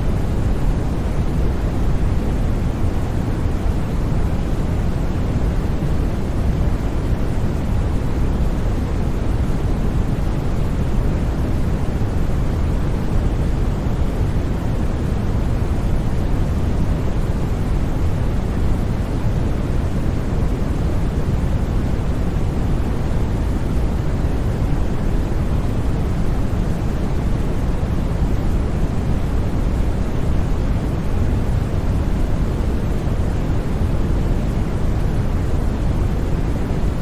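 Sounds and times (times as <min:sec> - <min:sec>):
white noise: 0:00.0 - 0:37.0.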